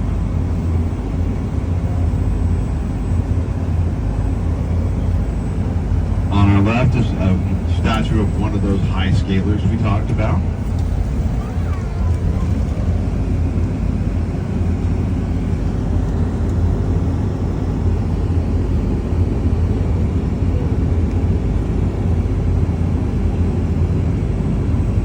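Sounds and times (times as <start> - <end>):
vehicle engine and road noise: 0.0 - 23.6.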